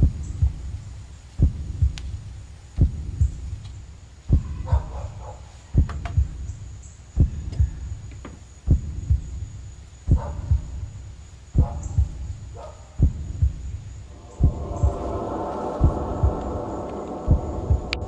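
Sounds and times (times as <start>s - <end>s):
heartbeat thumping: 0.0s - 0.8s, 1.4s - 3.6s, 4.3s - 5.2s, 5.8s - 6.6s, 7.2s - 11.0s, 11.6s - 18.0s.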